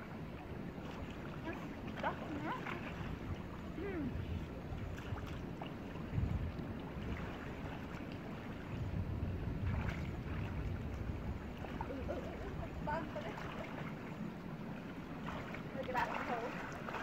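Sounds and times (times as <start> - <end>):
water sloshing and splashing: 0.0 - 17.0
wind rumble on microphone: 0.0 - 17.0.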